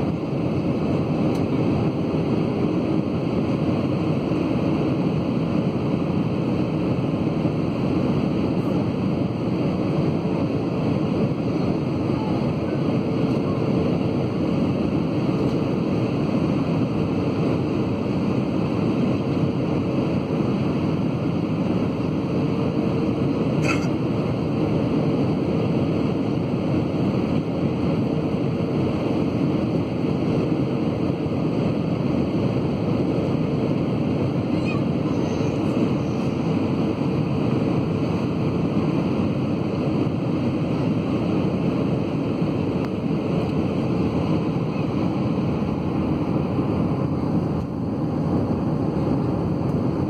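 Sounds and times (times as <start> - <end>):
aircraft cabin engine noise: 0.0 - 50.0.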